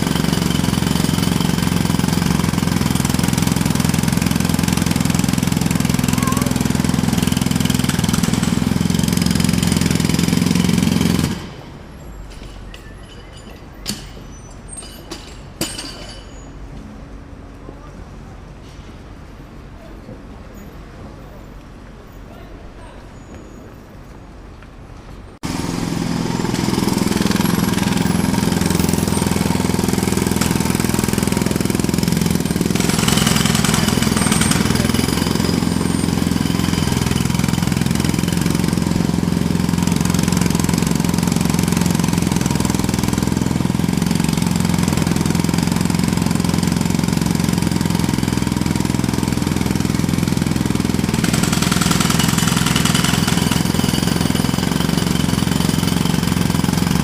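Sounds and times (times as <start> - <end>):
jackhammer hammering: 0.0 - 16.4, 25.4 - 57.0.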